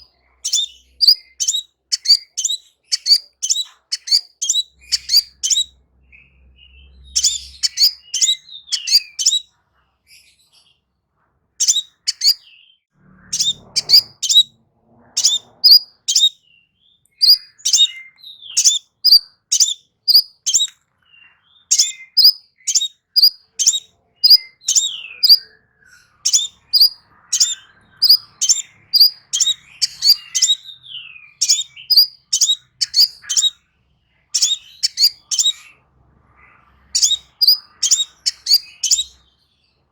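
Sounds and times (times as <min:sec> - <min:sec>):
bird chirping: 0:00.0 - 0:10.9, 0:11.6 - 0:39.9.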